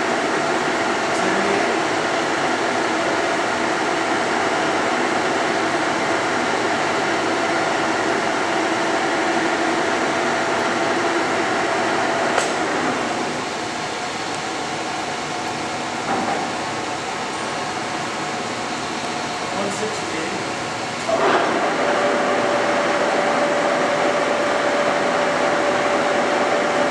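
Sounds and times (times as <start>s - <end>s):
lathe running hum: 0.0s - 26.9s.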